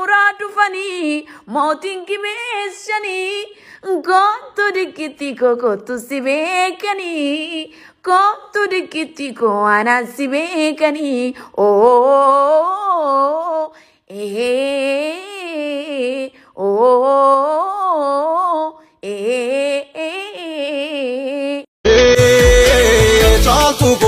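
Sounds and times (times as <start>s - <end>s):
woman singing unaccompanied: 0.0s - 21.7s.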